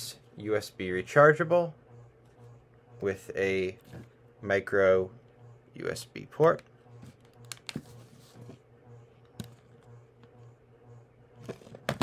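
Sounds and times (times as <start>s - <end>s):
faint pulsing low hum: 0.0s - 12.0s.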